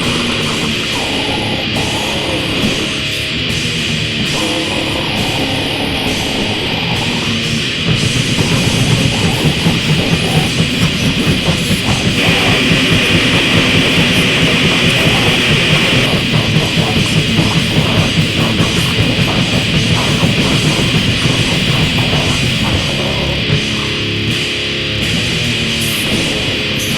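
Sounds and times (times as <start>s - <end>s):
distorted guitars: 0.0s - 26.9s
fast drum pulses: 0.0s - 26.9s.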